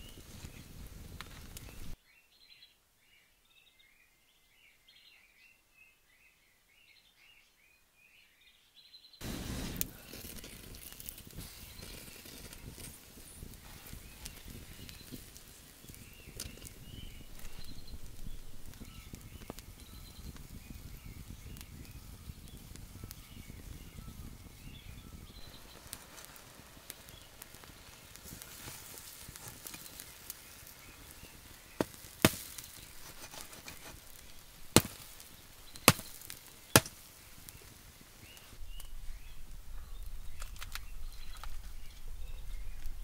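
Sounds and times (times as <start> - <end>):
charcoal fire crackling: 0.0 - 2.0, 9.2 - 43.0.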